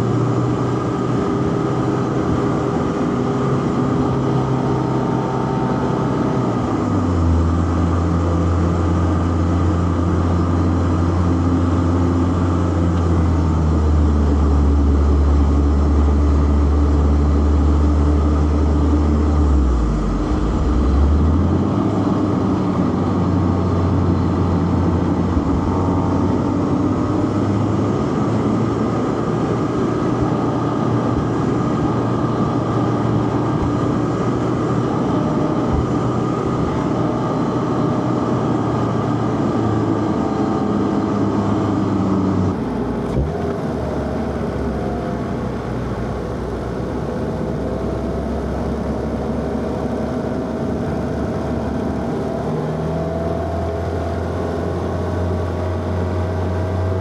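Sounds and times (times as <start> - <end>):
car engine running under load: 0.0 - 57.0
quieter car engine accelerating: 0.0 - 57.0.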